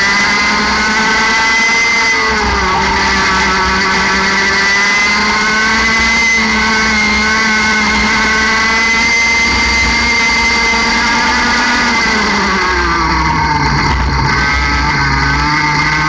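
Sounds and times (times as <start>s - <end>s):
kart engine revving high: 0.0s - 16.0s.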